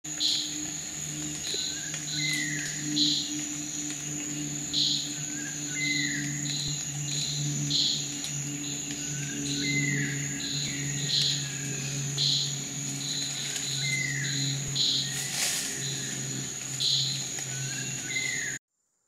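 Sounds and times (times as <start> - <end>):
insect drone with pulsing calls: 0.1 - 18.6
low hum: 0.1 - 18.6.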